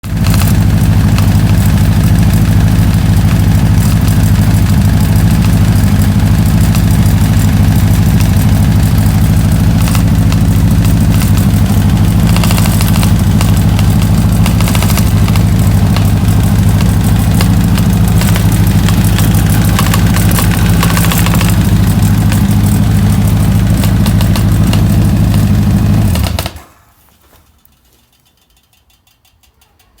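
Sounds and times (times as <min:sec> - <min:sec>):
engine idling with ticking: 0:00.0 - 0:30.0.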